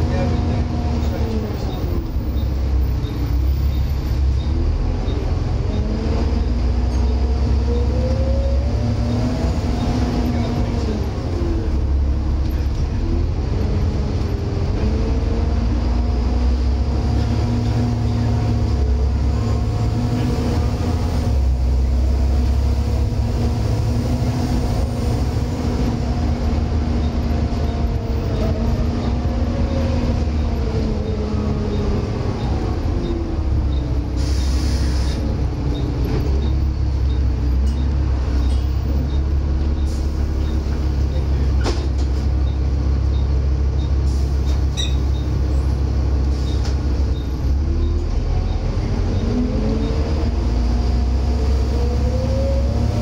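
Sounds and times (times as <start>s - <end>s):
diesel bus engine rumble: 0.0s - 53.0s.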